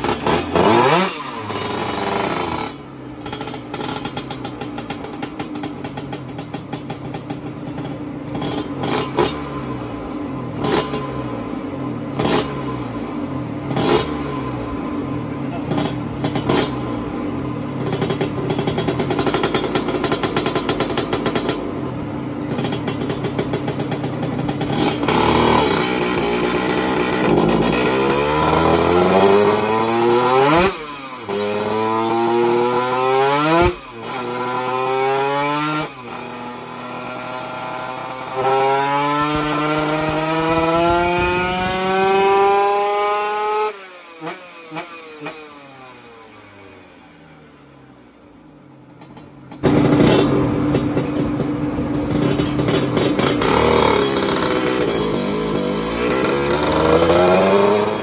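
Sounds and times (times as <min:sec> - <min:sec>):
racing motorcycle engine revving: 0:00.0 - 0:48.3, 0:49.1 - 0:58.0.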